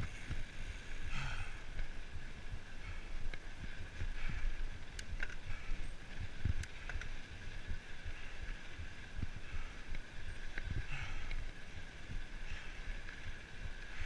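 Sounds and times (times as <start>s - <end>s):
bike clicking and rattling: 0.0s - 14.0s
wind buffeting microphone: 0.0s - 14.0s.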